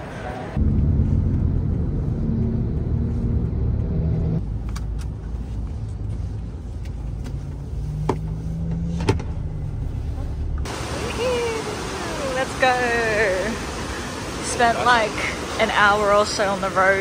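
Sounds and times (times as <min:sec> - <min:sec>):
car engine and tyres rumbling: 0:00.0 - 0:15.1.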